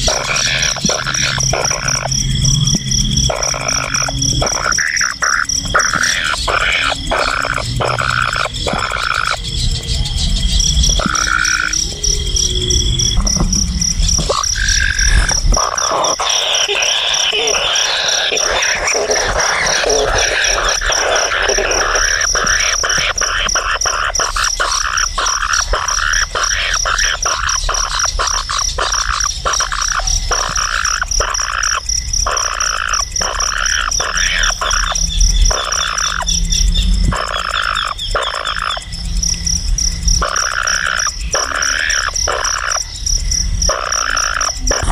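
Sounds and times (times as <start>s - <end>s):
frogs croaking: 0.0s - 44.9s
insect trill: 0.0s - 44.9s.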